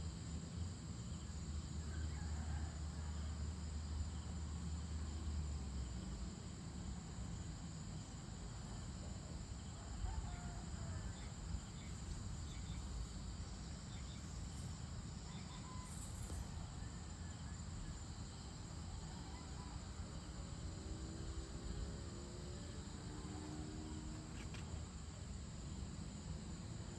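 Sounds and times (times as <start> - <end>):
high-pitched insect chorus: 0.0 - 26.9.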